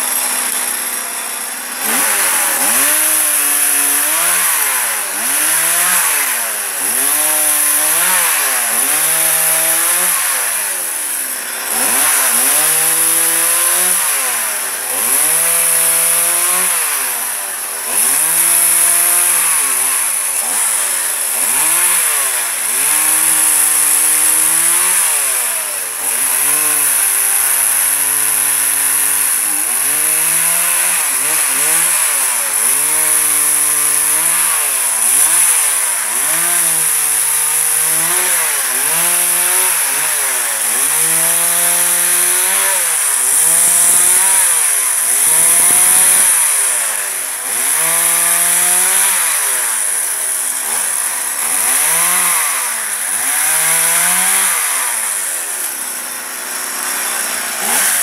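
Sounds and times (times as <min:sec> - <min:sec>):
chainsaw cutting branches: 0:00.0 - 0:58.0.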